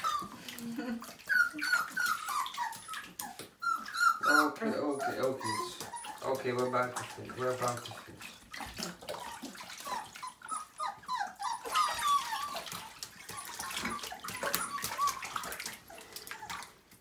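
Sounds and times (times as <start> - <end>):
puppies whining: 0.0 - 7.2, 9.2 - 16.7
water splashing in tub: 0.0 - 17.0.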